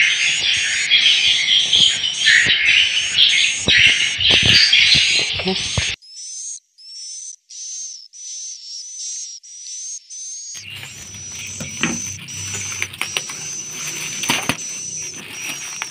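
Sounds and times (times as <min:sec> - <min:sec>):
dense twittering: 0:00.0 - 0:08.4, 0:10.6 - 0:15.9.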